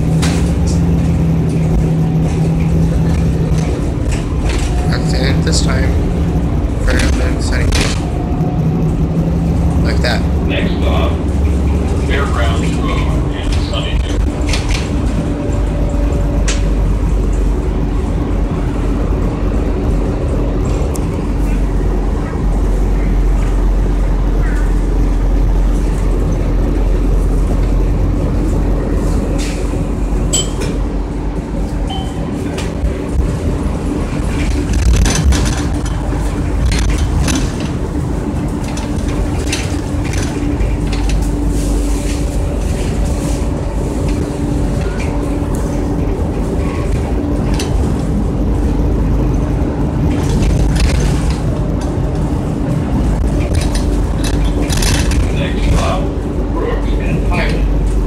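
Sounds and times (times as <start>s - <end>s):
bus engine and road rumble: 0.0s - 58.0s
interior rattles and clicks: 0.0s - 58.0s.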